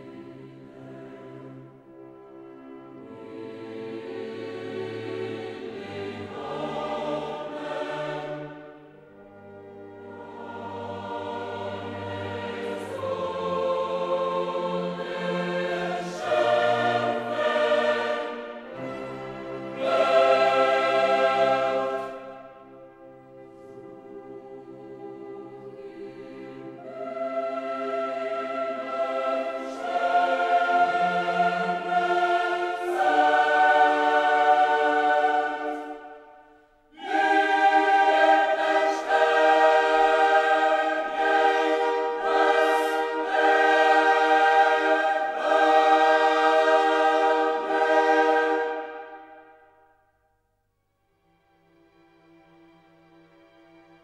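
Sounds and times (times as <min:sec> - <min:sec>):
choir singing held chords: 0:00.0 - 0:50.2.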